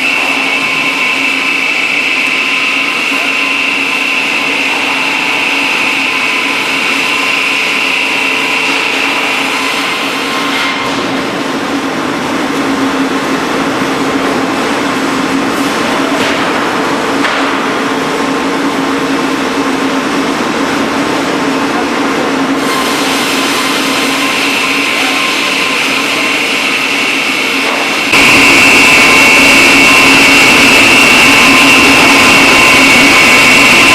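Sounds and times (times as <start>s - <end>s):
sawing machine running: 0.0s - 33.9s.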